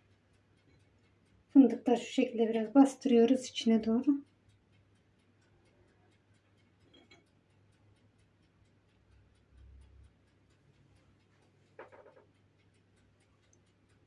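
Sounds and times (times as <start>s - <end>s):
faint ticking: 0.0s - 14.0s.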